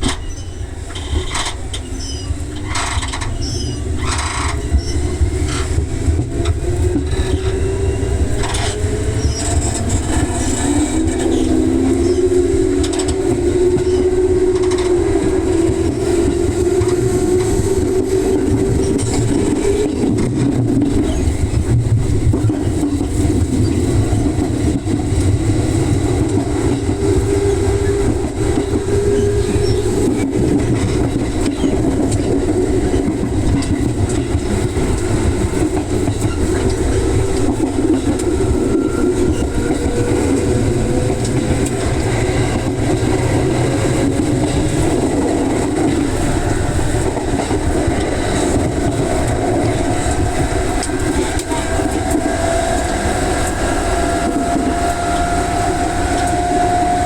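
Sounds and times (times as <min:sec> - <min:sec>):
train motor and wheel rumble: 0:00.0 - 0:57.0.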